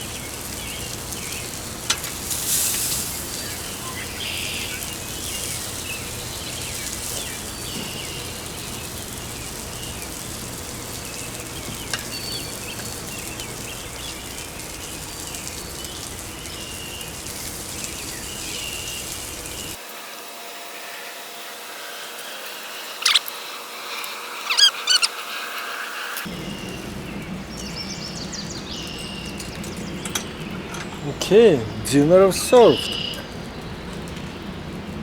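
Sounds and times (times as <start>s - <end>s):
birds chirping: 0.0s - 19.8s, 22.8s - 35.0s
burgers and bacon sizzling on a grill: 0.0s - 35.0s.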